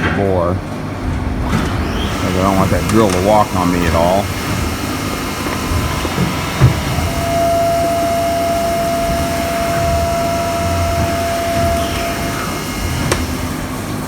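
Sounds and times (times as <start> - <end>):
machine hum: 0.0 - 14.0
milling machine whine: 0.6 - 14.0.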